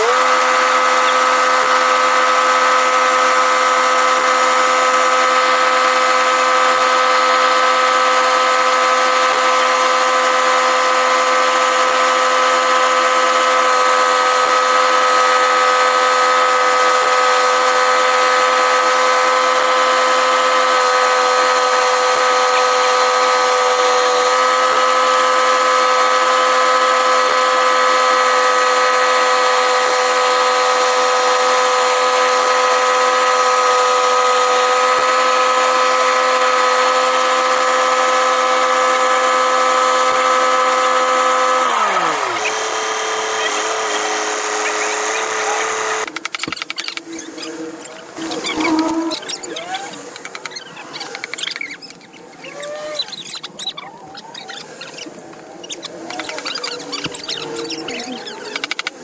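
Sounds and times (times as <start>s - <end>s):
power tool whining steadily: 0.0s - 59.0s.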